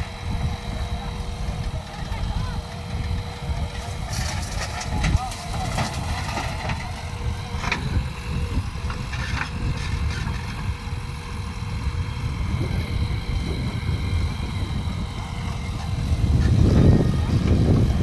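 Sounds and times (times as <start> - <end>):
diesel engine low rumble: 0.0 - 18.0.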